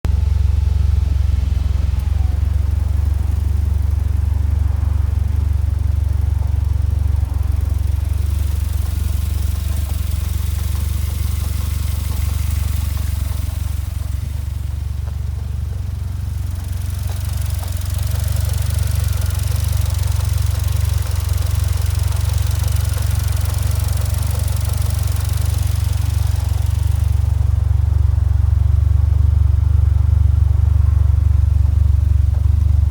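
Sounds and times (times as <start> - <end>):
sports car engine running: 0.0 - 32.9.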